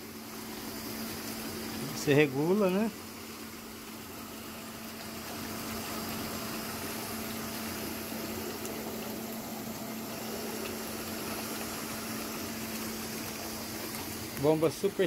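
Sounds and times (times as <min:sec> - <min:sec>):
pump motor humming: 0:00.0 - 0:15.0
water jets churning and bubbling: 0:00.0 - 0:15.0.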